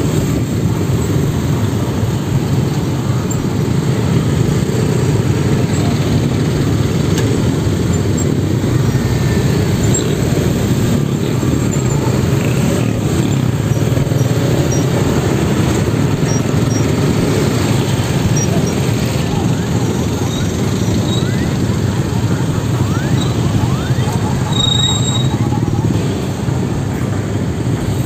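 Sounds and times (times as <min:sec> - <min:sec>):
motorcycle and car engines: 0:00.0 - 0:28.0.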